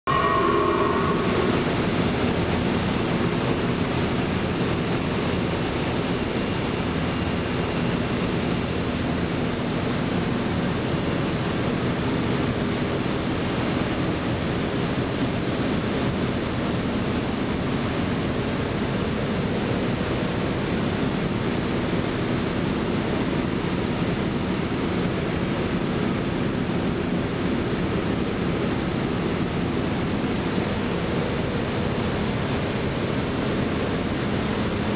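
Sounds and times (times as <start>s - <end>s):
machine running with rushing noise: 0.1s - 34.9s.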